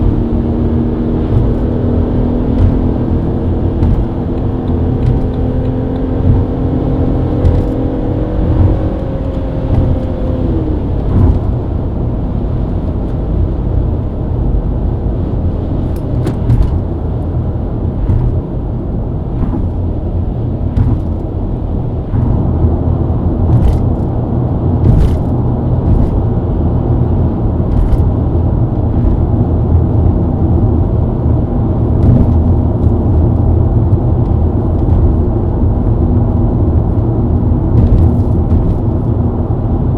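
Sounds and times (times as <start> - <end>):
car engine at highway speed: 0.0 - 39.9
tyre and road rumble: 0.0 - 39.9.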